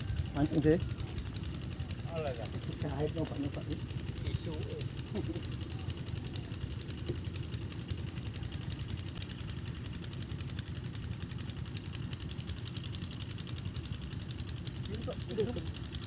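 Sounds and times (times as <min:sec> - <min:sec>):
small engine knocking: 0:00.0 - 0:16.0.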